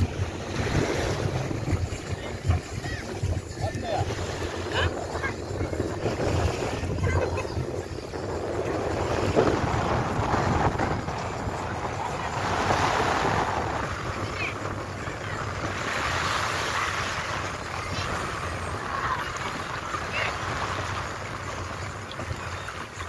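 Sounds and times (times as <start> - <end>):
sea surf washing around platform: 0.0 - 23.0
wind rumbling on microphone: 0.0 - 23.0.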